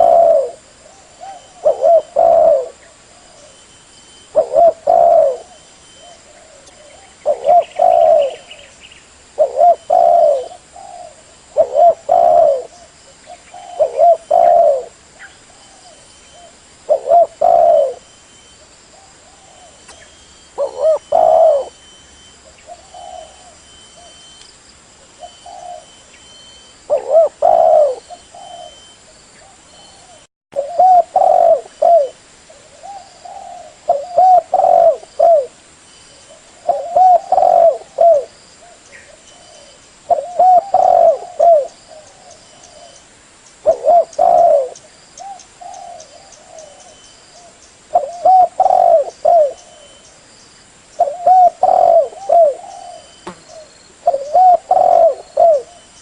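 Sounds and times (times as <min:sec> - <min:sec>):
dove cooing: 0:00.0 - 0:08.7, 0:09.4 - 0:18.2, 0:18.9 - 0:24.3, 0:25.0 - 0:43.0, 0:43.6 - 0:50.1, 0:50.9 - 0:56.0.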